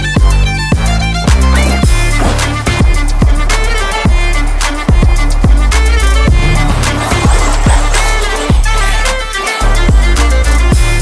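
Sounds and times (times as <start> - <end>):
music with heavy kick drum: 0.0 - 11.0.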